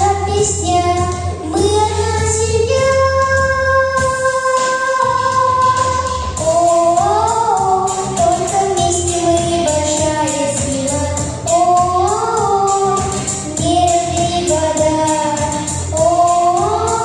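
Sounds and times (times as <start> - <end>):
instrumental accompaniment: 0.0 - 17.0
voices singing: 1.9 - 9.3, 10.0 - 17.0.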